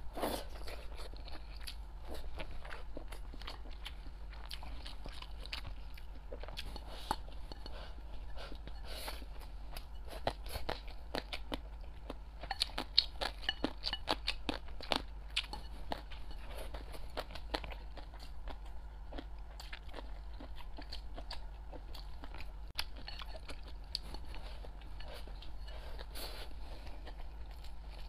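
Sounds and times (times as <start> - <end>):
chewing crunchy food: 0.0 - 28.0.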